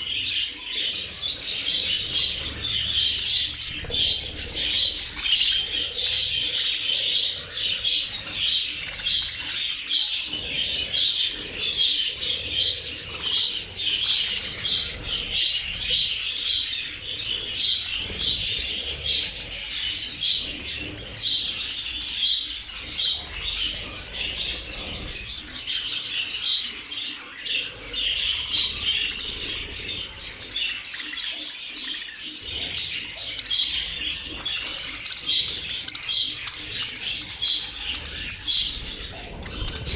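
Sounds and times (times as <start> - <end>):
flock of budgerigars chattering: 0.0 - 39.9.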